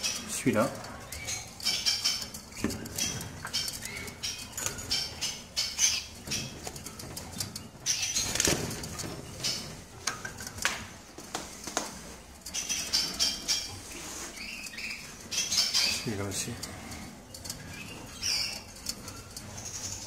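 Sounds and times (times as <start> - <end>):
canaries chirping: 0.0 - 20.0.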